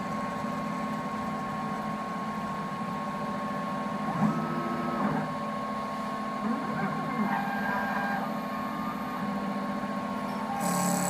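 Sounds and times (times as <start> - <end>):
lathe motors humming and whining: 0.0 - 11.0.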